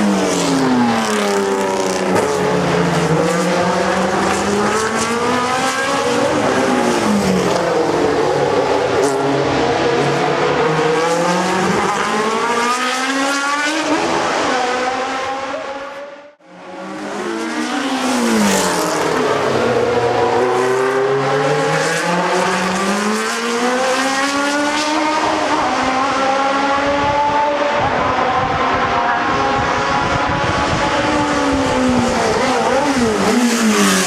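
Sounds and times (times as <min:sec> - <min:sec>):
race car engines at high revs: 0:00.0 - 0:34.0.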